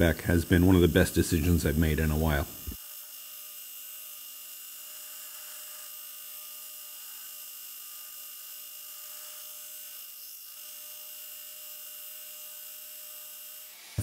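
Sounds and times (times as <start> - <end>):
belt grinder whining: 0.0 - 14.0.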